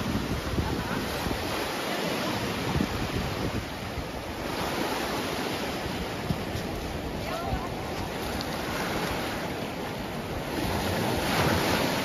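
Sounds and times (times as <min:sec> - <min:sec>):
surf washing onto stony shore: 0:00.0 - 0:12.0
wind gusting on microphone: 0:00.0 - 0:12.0.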